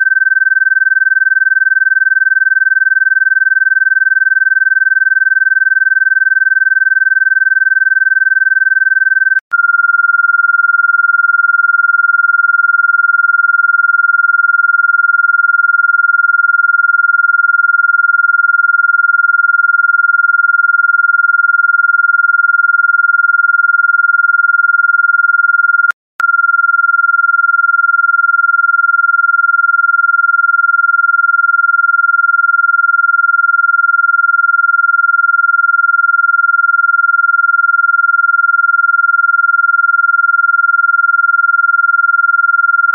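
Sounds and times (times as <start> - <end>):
high pure sine tone: 0.0 - 42.9.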